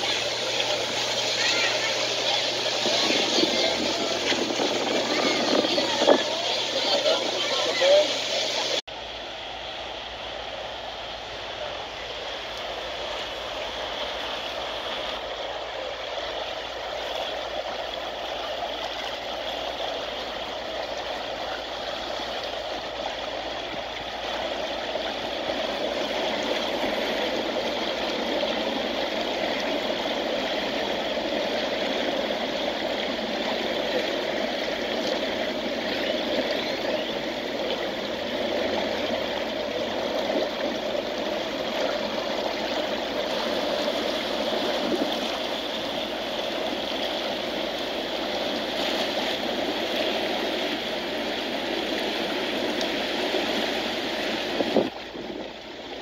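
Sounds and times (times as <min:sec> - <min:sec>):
pool jets churning water: 0:00.0 - 0:56.0.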